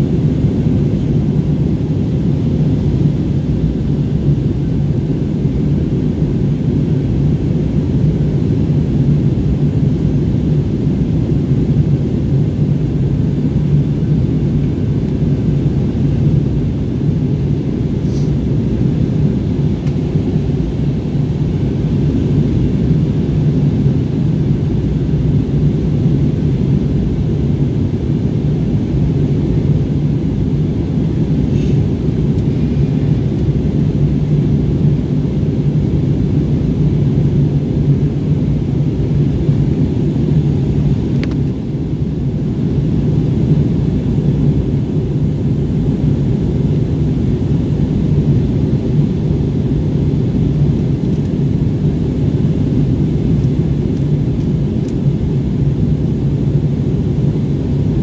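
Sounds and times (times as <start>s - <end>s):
jet airliner cabin rumble: 0.0s - 58.0s.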